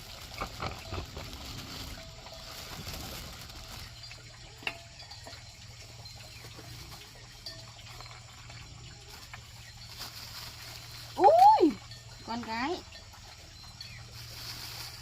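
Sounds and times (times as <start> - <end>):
faint water: 0.0 - 15.0.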